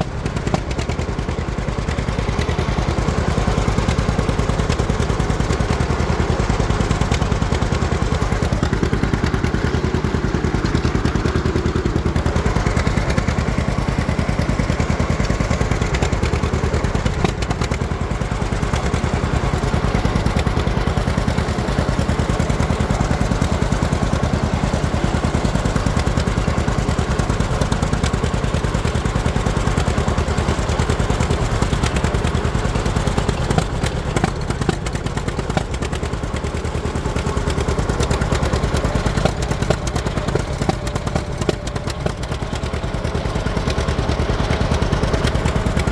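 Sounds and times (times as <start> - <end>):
tractor engine firing beat: 0.0 - 45.9.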